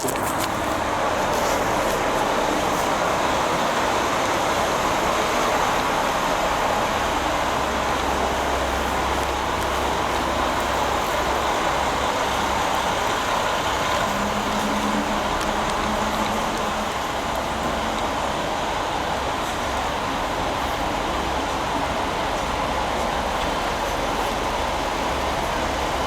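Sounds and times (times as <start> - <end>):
train engine hiss and rumble: 0.0 - 26.0.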